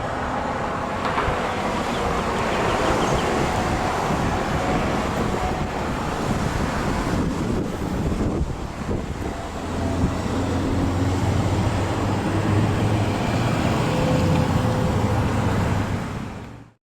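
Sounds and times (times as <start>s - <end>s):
road traffic rumble: 0.0s - 16.8s
wind buffeting microphone: 0.2s - 16.2s.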